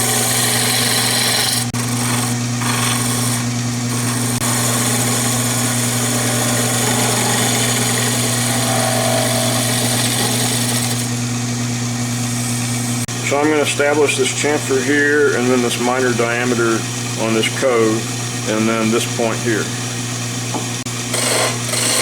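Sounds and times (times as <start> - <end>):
chisel cutting spinning wood: 0.0 - 22.0
wood lathe motor humming: 0.0 - 22.0.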